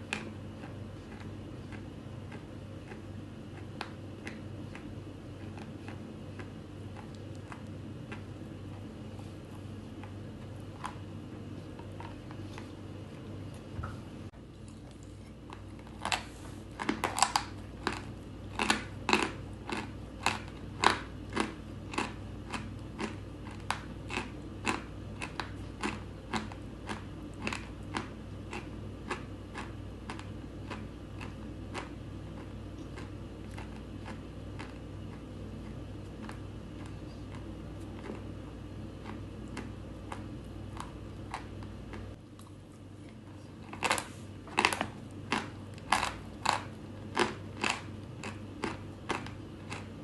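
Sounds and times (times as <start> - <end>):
person chewing chalk: 0.0 - 13.7, 14.5 - 50.0.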